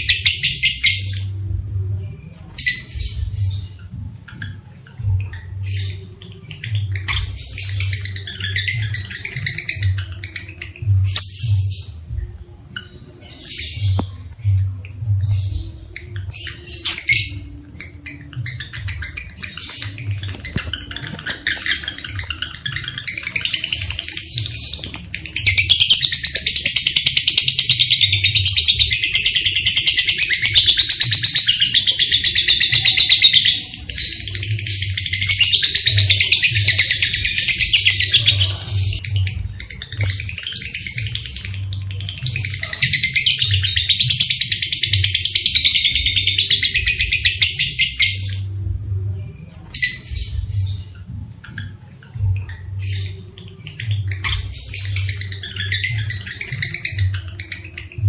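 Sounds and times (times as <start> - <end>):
lovebirds chattering shrilly: 2.1 - 48.6, 49.2 - 58.0.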